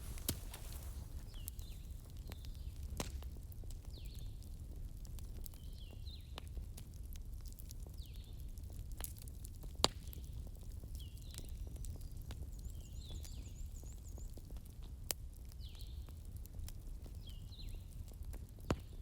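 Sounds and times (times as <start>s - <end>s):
fire crackles and pops: 0.0s - 19.0s.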